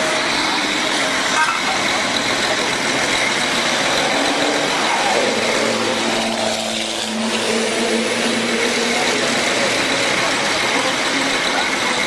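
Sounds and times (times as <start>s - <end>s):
racing truck diesel engines: 0.0s - 12.0s.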